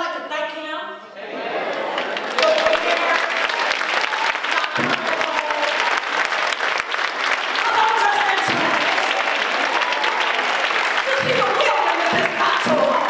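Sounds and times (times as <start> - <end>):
crowd applauding: 1.6 - 13.0.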